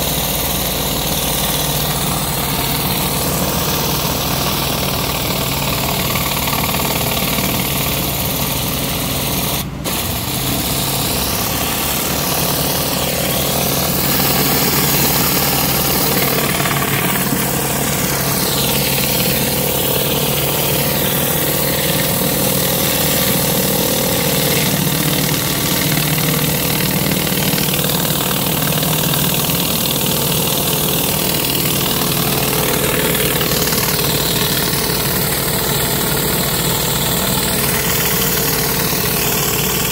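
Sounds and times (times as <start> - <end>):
pressure washer engine running: 0.0 - 39.9
water spraying onto concrete: 0.0 - 39.9.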